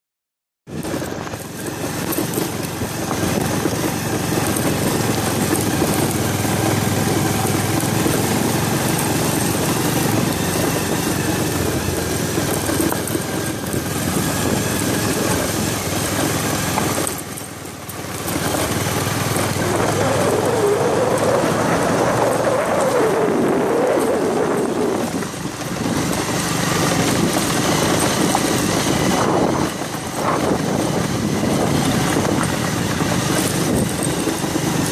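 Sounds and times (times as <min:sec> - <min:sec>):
motorcycle engine running: 0:00.7 - 0:34.9
wind and road noise: 0:00.7 - 0:34.9.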